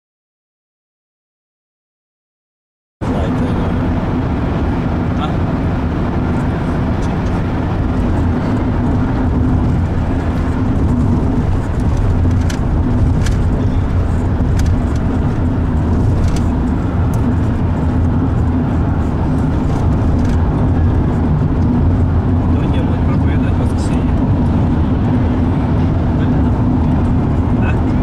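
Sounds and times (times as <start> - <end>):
car engine and road noise: 3.0 - 28.0.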